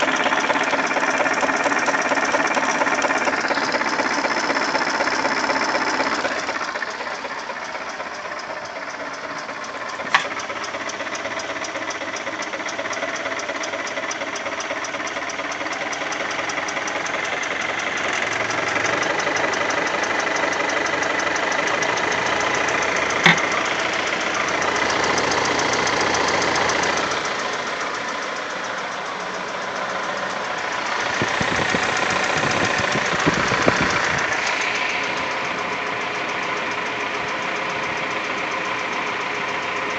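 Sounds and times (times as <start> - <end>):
engine running with knocking: 0.0 - 39.9.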